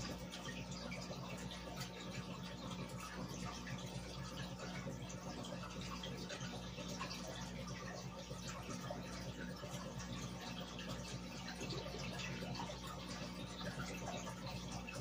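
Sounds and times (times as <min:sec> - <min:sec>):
aquarium air bubbling: 0:00.0 - 0:15.0.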